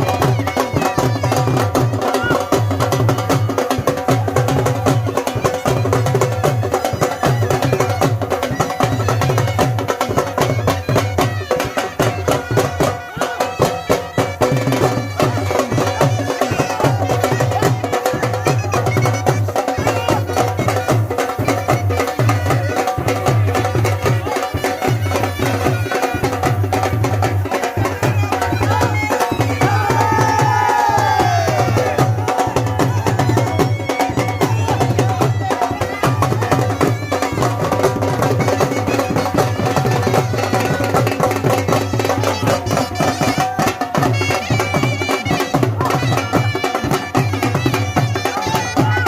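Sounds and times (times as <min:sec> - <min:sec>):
drum beating rhythm: 0:00.0 - 0:49.0
reed wind instrument melody: 0:00.0 - 0:49.0.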